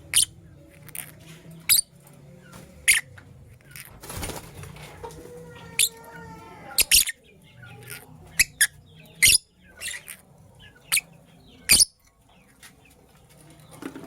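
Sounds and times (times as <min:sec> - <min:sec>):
birds chirping and squeaking: 0:00.0 - 0:14.0.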